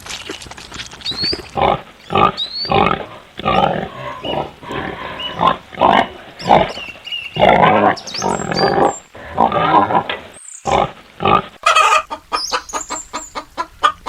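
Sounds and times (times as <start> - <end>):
pigs grunting and snorting: 0.0 - 11.6.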